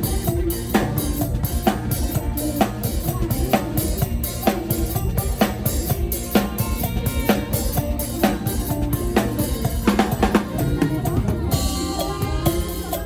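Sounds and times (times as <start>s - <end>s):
bass notes: 0.0s - 13.0s
drum kit groove with rimshots: 0.0s - 13.0s
held keyboard notes: 0.0s - 13.0s.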